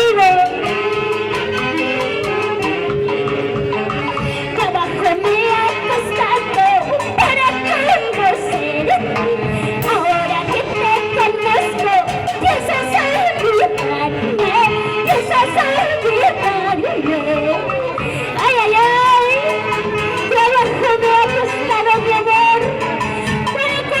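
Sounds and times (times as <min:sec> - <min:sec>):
band playing folk music: 0:00.0 - 0:24.0.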